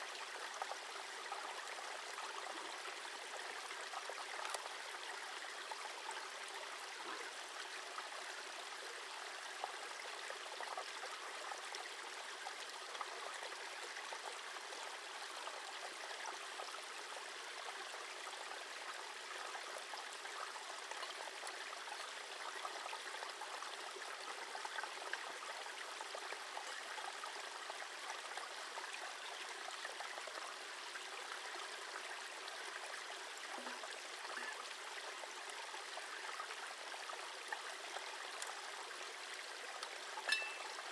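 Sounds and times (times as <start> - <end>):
stream flowing water: 0.0 - 40.9.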